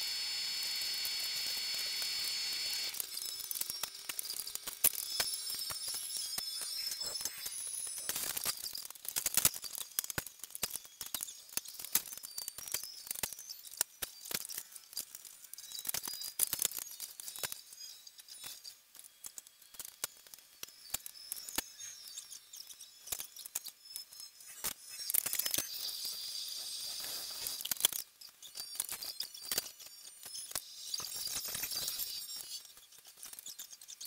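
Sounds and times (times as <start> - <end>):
quick clicks and high squeaks: 0.0 - 34.0.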